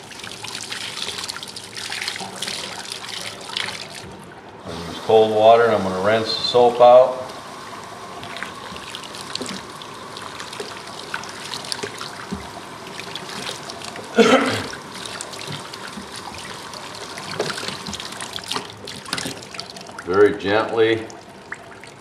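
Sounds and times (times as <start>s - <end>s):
water running and trickling: 0.0s - 22.0s.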